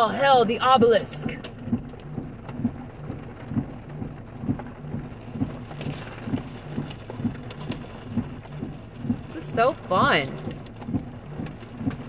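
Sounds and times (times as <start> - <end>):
rain and hail on car roof: 0.0 - 12.0
low regular thump: 0.6 - 12.0.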